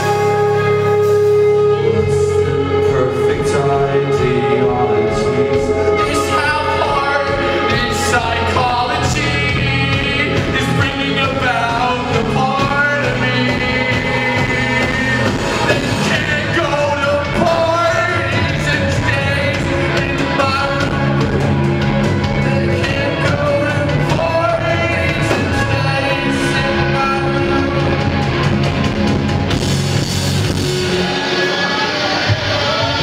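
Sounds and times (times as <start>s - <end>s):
man singing: 0.0s - 28.4s
live rock band playing: 0.0s - 33.0s.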